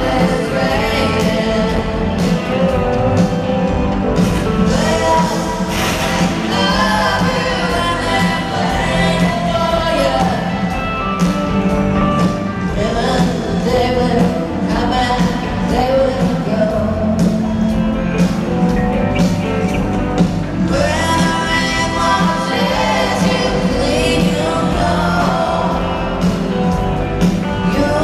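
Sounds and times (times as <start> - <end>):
lead and backing vocals: 0.0 - 28.0
live rock band: 0.0 - 28.0.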